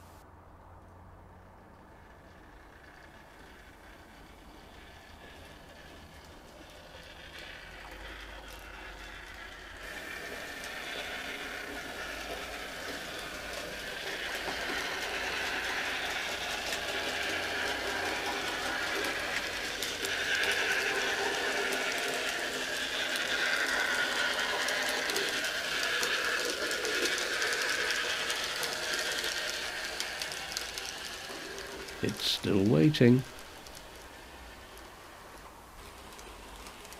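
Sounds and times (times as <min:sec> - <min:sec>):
wheels clicking over rails: 0:00.9 - 0:36.9
model train motor whine: 0:01.3 - 0:36.9.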